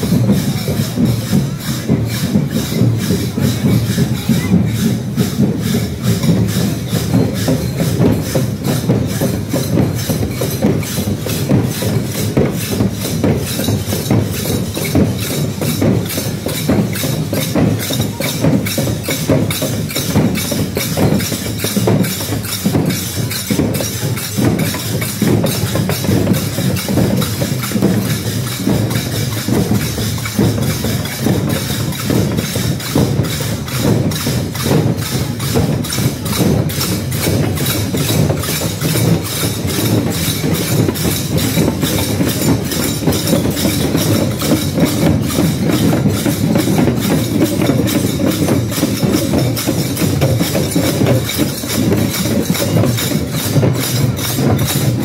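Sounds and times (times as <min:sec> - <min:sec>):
drums beaten with sticks: 0:00.0 - 0:55.0.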